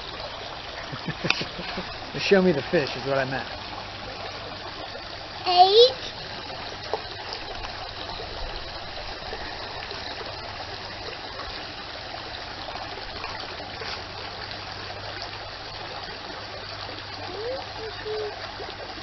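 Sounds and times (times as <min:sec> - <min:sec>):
creek water trickling: 0:00.0 - 0:19.0.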